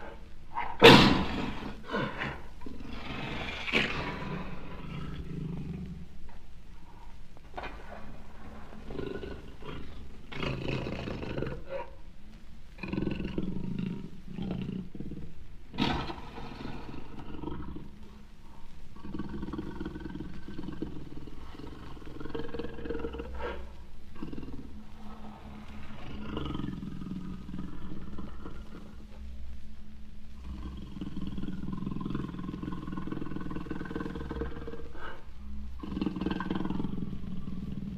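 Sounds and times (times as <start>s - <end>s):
jaguar deep rough calls: 0.0s - 12.1s, 12.8s - 29.4s, 30.3s - 37.9s.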